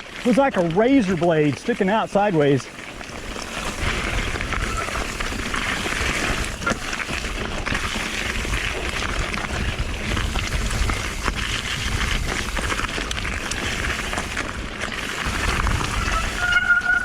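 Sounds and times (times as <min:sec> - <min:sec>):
bike rattling: 0:00.0 - 0:17.0
tyres rolling over rock: 0:00.0 - 0:17.0
wind buffeting microphone: 0:02.7 - 0:17.0.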